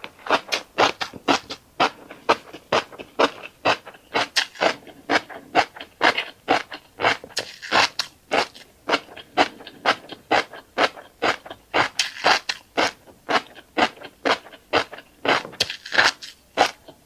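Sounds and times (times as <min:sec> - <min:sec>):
chewing crunchy seeds: 0:00.1 - 0:17.0.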